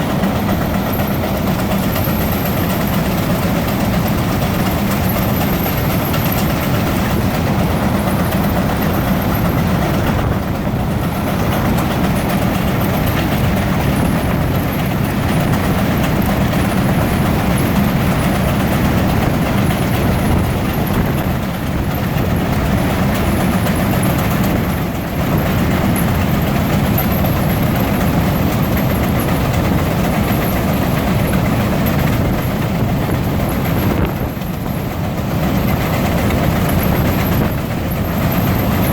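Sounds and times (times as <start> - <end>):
steam engines running: 0.0 - 38.9.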